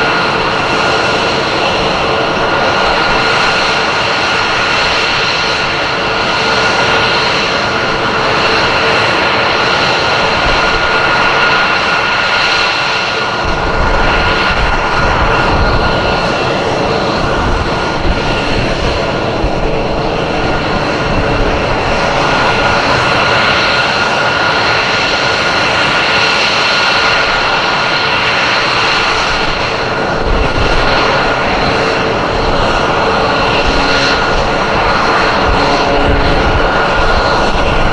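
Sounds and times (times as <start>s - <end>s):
jet engines whining: 0.0s - 37.9s.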